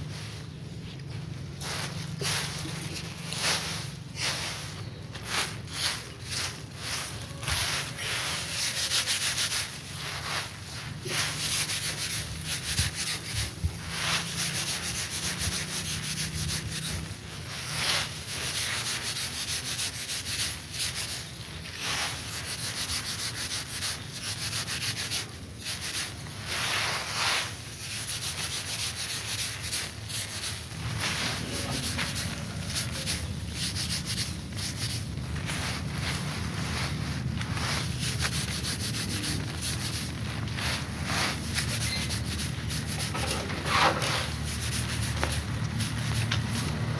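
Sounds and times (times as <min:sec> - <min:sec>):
dry straw rustling and scraping: 0:00.0 - 0:46.9.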